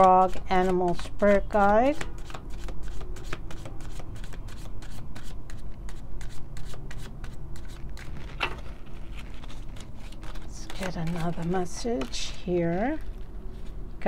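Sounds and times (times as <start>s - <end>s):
cards being shuffled: 0.0s - 13.9s.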